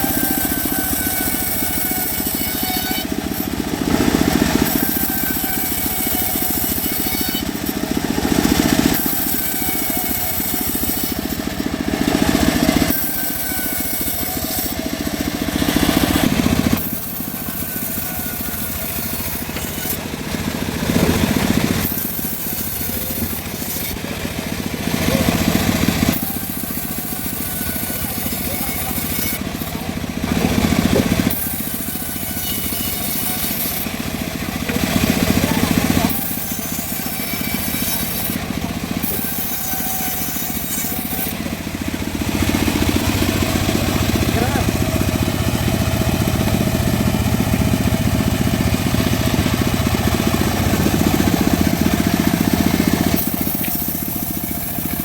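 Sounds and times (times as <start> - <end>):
bandsaw mill sawing wood: 0.0 - 55.0.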